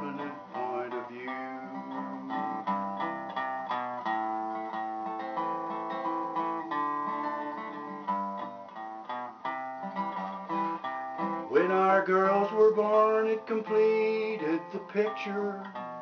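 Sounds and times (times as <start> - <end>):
resonator guitar strumming: 0.0 - 16.0.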